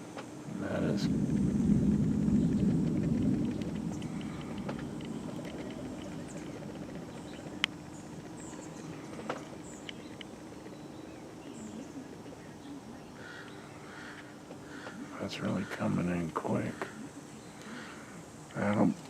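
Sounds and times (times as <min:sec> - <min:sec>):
low outdoor rumble: 0:00.0 - 0:19.0
faint bird chirps: 0:00.6 - 0:19.0.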